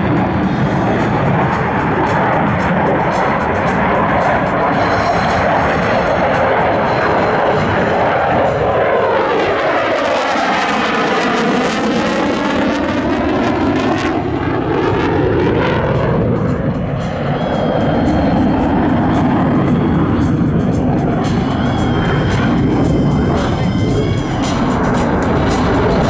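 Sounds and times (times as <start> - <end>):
jet flying past low: 0.0 - 26.0.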